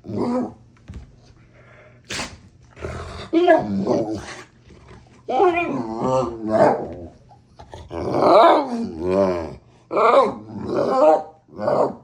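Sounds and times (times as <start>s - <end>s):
dog growling playfully: 0.0s - 0.6s, 2.7s - 12.0s.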